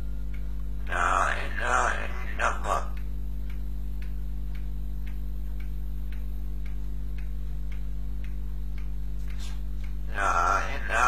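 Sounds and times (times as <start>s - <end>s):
faint regular ticks: 0.0s - 11.0s
low hum: 0.0s - 11.0s.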